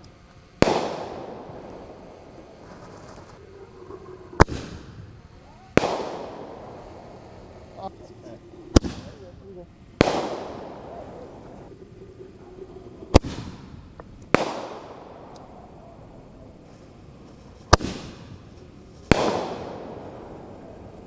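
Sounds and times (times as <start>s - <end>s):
firework shells booming: 0.0s - 16.1s, 17.6s - 21.0s.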